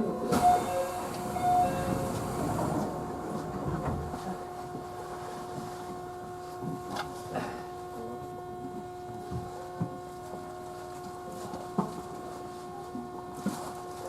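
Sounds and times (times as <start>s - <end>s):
train car hum with low rumble: 0.0s - 14.0s.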